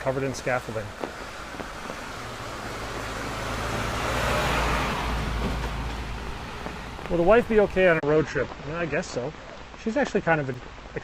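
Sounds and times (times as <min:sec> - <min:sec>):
vehicle passing on wet road: 0:00.0 - 0:10.8.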